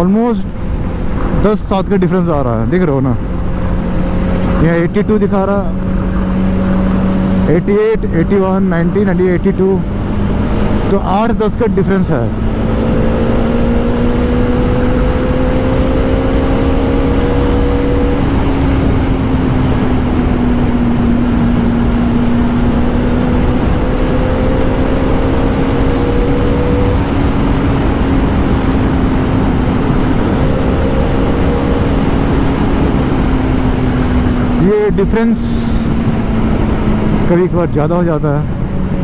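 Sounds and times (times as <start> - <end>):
motorcycle engine hum: 0.0 - 39.0
wind and road noise: 0.0 - 39.0.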